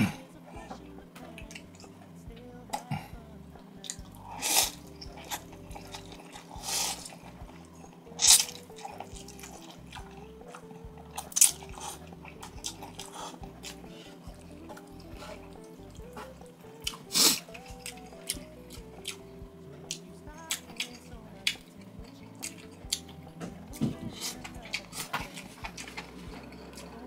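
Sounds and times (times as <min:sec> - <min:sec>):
quiet background music: 0:00.0 - 0:27.0
person slurping and chewing noodles: 0:03.8 - 0:27.0.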